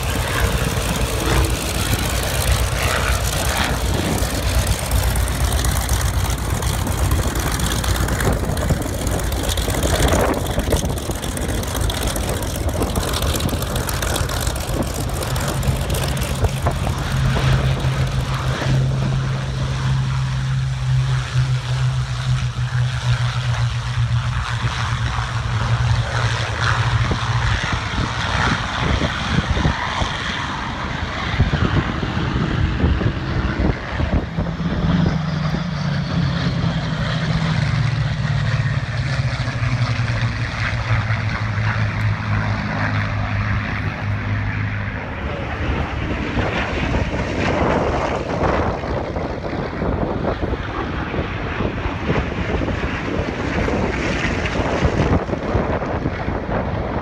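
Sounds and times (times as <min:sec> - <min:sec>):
propeller aircraft engines droning: 0:00.0 - 0:57.0.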